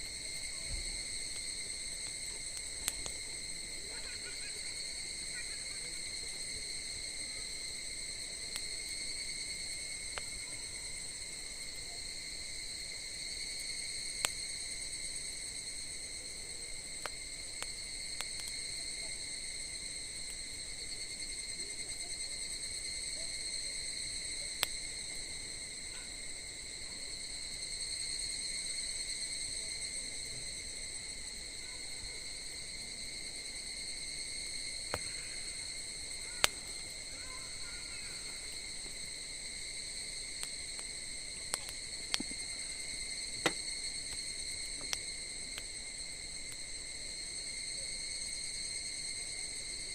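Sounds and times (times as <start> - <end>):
campfire wood popping: 0.0 - 28.1, 29.7 - 47.0
insect trill: 0.0 - 49.9.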